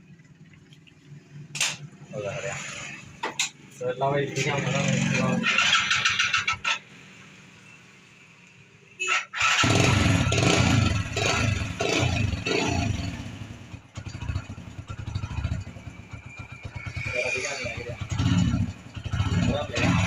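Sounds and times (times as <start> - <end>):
motorcycle engine starting and revving: 1.3 - 7.4, 9.2 - 20.0.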